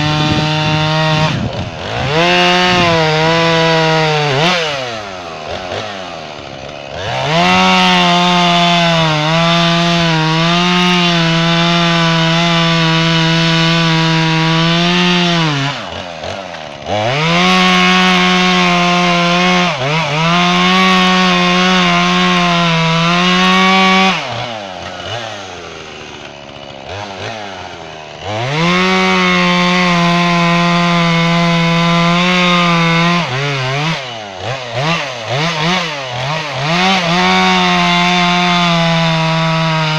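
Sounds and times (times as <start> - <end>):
chainsaw cutting wood: 0.0 - 39.9
chainsaw engine idling: 0.0 - 39.9.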